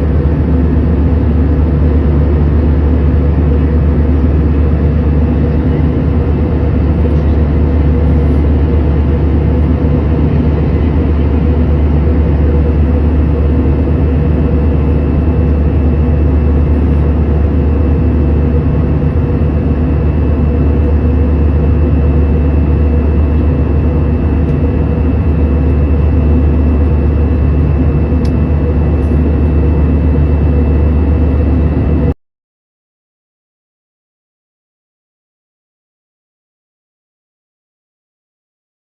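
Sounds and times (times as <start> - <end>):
jet engine cabin drone: 0.0 - 32.2.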